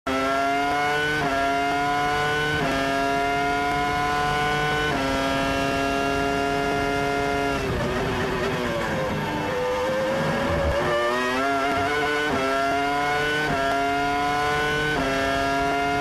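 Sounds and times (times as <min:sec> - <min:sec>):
racing car engine at full throttle: 0:00.1 - 0:16.0.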